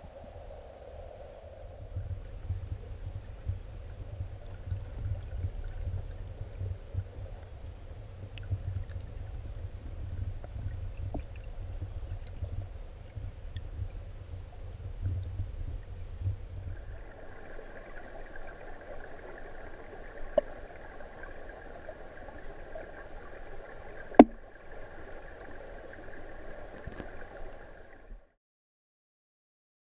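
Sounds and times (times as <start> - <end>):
stream water rushing underwater: 0.0 - 28.3.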